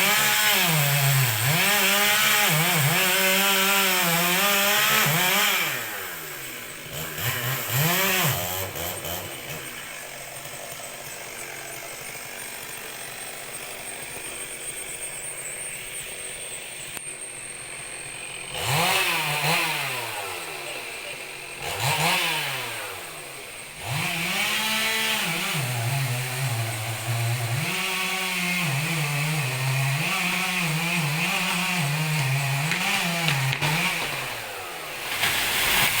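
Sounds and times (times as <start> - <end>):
chainsaw engine revving: 0.0 - 36.0.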